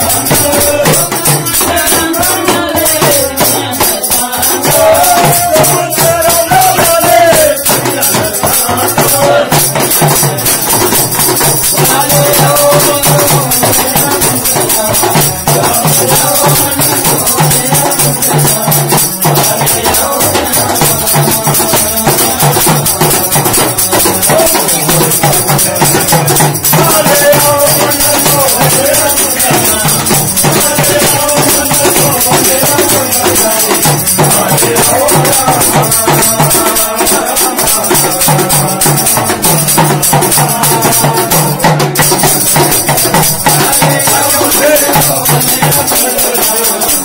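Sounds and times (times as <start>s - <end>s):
hand clappers: 0.0s - 47.0s
hand drums struck with sticks: 0.0s - 47.0s
men singing together: 0.0s - 47.0s.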